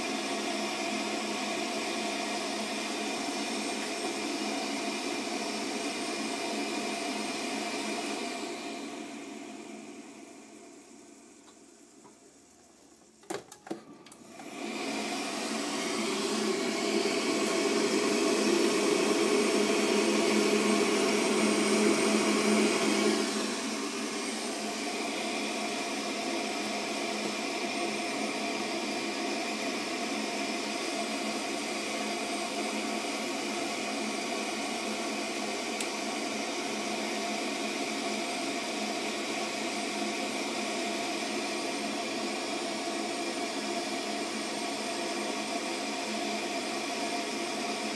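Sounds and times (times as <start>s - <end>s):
gas boiler whirring: 0.0s - 47.9s.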